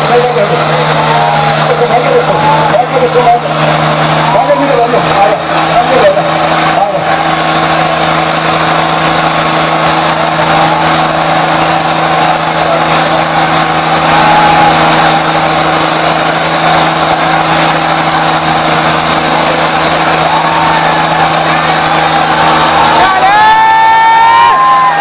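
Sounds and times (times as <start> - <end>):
tractor diesel engines droning: 0.0 - 25.0.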